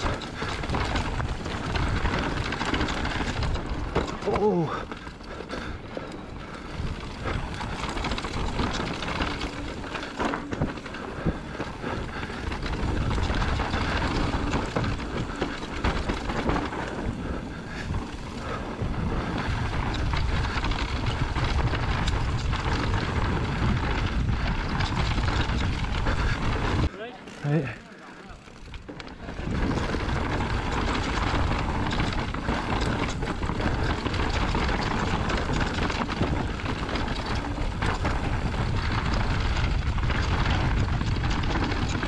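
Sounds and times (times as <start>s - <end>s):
bike clattering over bumps: 0.0s - 42.0s
tyres rolling over dirt and rocks: 0.0s - 42.0s.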